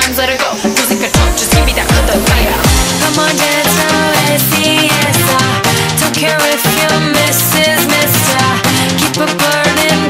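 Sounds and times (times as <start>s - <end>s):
upbeat dance music: 0.0s - 10.0s.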